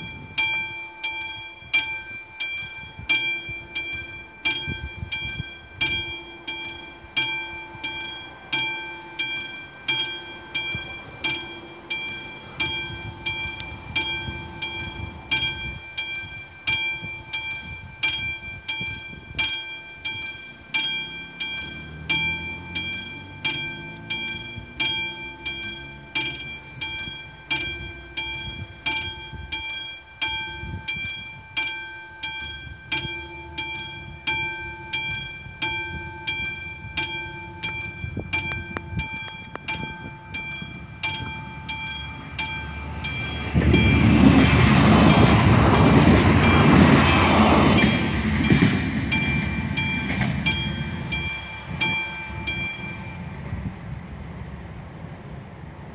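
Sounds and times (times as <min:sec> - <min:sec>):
level crossing bell ringing: 0:00.0 - 0:53.3
passenger train passing: 0:00.0 - 0:55.9.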